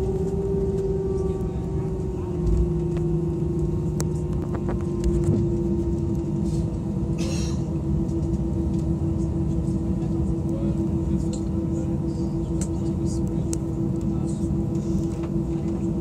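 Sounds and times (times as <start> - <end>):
airliner cabin rumble and hum: 0.0 - 16.0.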